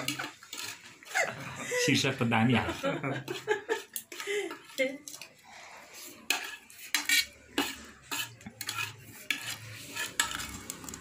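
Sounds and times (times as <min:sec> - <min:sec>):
dishes and cutlery clinking: 0:00.0 - 0:11.0.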